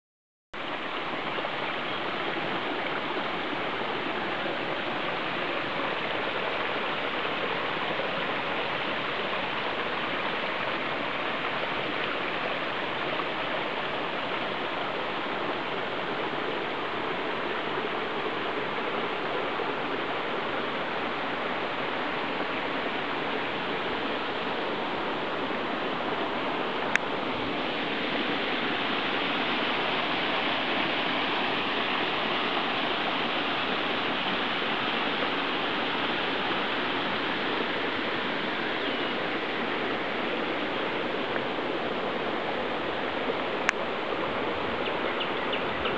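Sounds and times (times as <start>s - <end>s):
brook babbling over stones: 0.6s - 45.9s.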